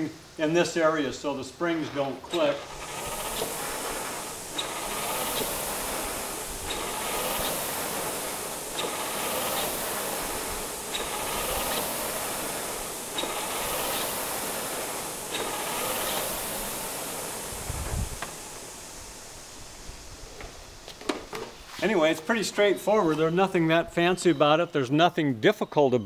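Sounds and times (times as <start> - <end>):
rowing machine flywheel whooshing: 1.1 - 22.2.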